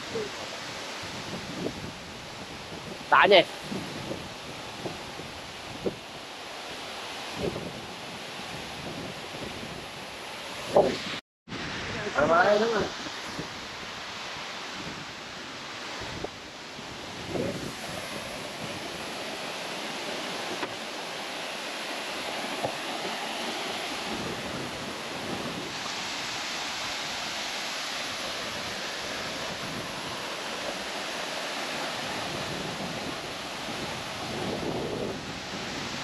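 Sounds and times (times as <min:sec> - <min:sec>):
waterfall rushing: 0:03.0 - 0:07.5, 0:10.2 - 0:36.0.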